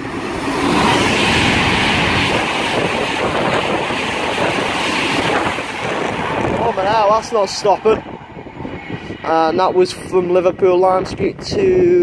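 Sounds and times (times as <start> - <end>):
electric train passing at speed: 0.0 - 12.0.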